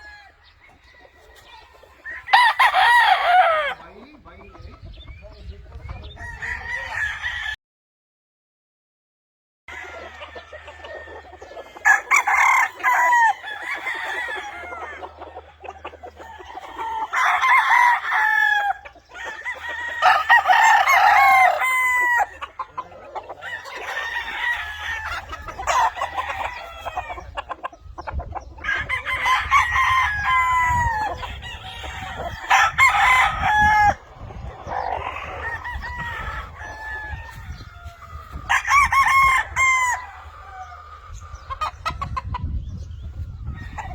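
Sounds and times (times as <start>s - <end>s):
chickens clucking: 0.0s - 7.3s, 9.7s - 43.9s
roosters crowing: 0.0s - 7.6s, 9.7s - 42.5s, 43.2s - 43.9s.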